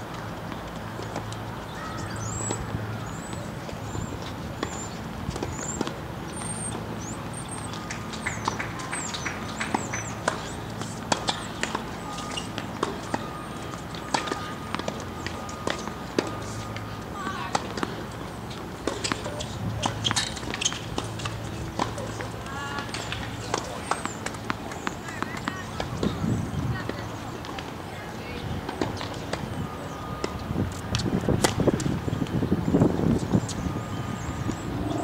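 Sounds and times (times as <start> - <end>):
tennis balls bouncing and struck: 0.1 - 27.8, 28.6 - 35.0.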